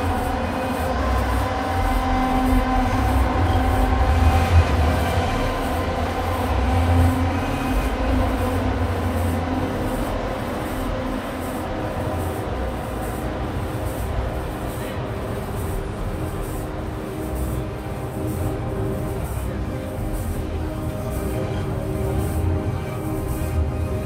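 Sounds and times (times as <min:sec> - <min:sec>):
electronic drone music: 0:00.0 - 0:24.0.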